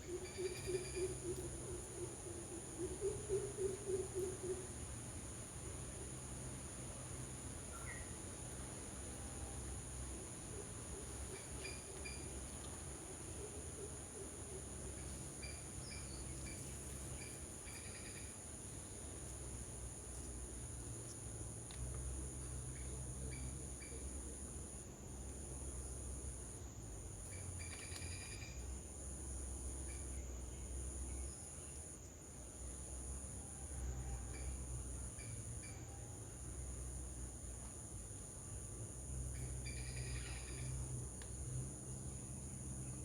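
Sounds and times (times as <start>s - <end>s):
insect chirps: 0.0s - 43.0s
insects droning: 0.0s - 43.0s.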